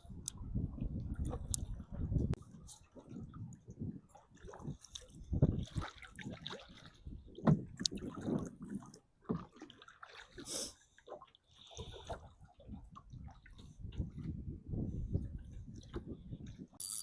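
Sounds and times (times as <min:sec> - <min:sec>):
water splashing against kayak: 0:00.9 - 0:16.7.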